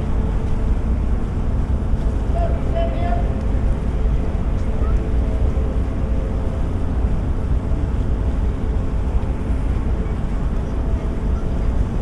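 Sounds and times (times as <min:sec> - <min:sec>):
ship engine rumble: 0:00.0 - 0:12.0.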